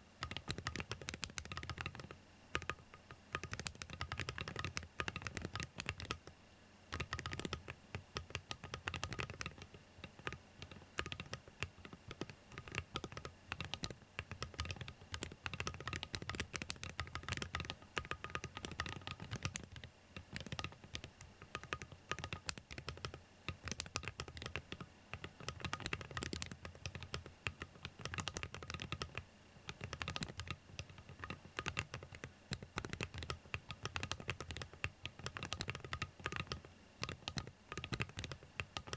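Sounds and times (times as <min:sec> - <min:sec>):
mechanical keyboard key clacks: 0:07.0 - 0:38.9.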